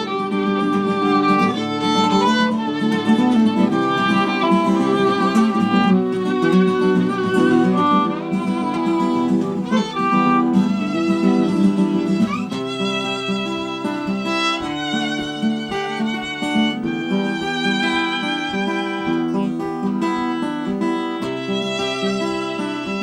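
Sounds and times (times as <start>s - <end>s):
acoustic guitar chords: 0.0s - 23.0s
violin melody with vibrato: 0.0s - 23.0s.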